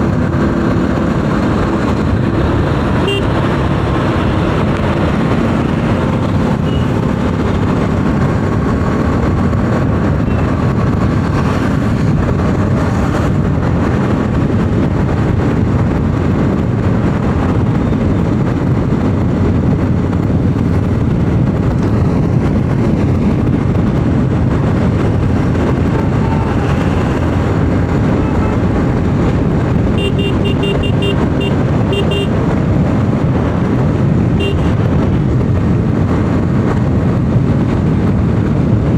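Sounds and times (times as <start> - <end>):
motorcycle engine and tyre noise: 0.0 - 38.9
wind rush on microphone: 0.0 - 38.9.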